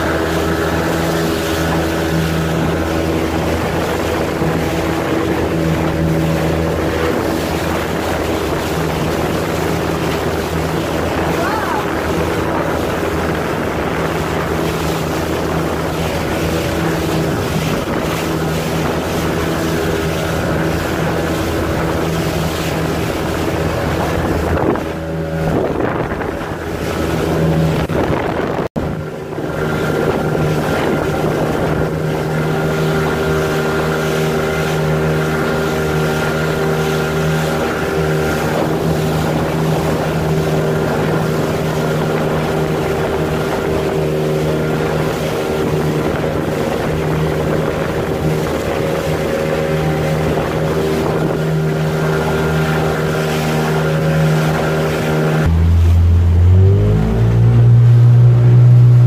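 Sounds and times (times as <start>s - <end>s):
motorboat engine drone: 0.0s - 59.0s
wind buffeting microphone: 0.0s - 59.0s.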